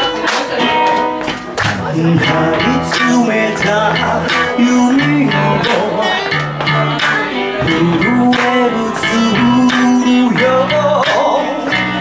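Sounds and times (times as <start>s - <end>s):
live band playing guitar music: 0.0s - 12.0s
person singing: 0.0s - 12.0s.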